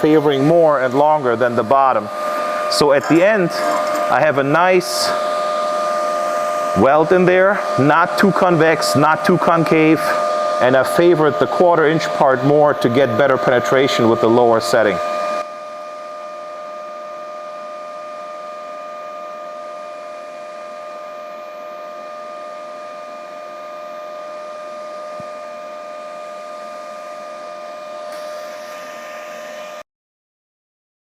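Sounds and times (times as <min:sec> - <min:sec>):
machine hum with whine: 0:00.0 - 0:29.8.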